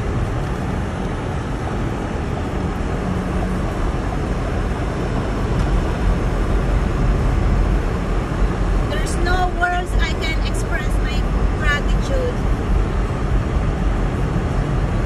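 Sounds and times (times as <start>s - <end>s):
tyres rumbling on road: 0.0s - 15.0s.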